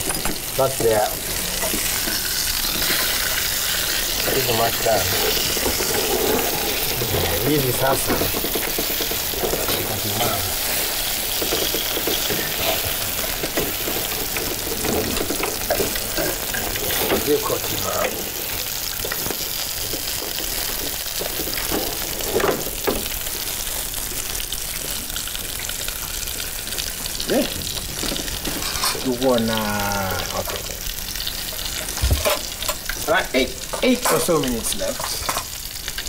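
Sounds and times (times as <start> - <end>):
food sizzling in a pan: 0.0 - 36.0.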